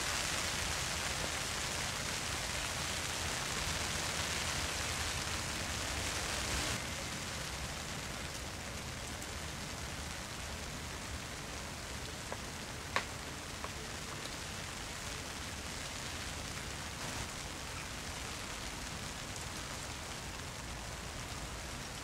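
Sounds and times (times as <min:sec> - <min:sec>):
rain hissing on pond water: 0:00.0 - 0:22.0.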